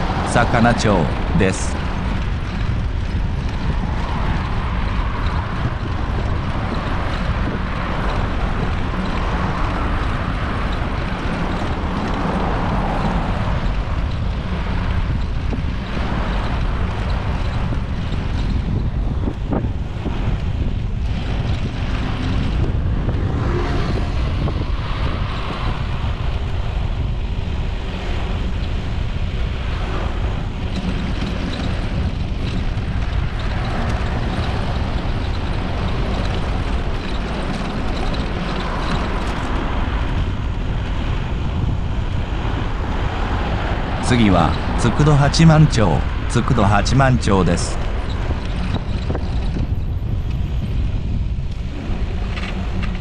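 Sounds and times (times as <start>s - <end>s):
road traffic: 0.0s - 53.0s
wind rumble on microphone: 0.0s - 53.0s.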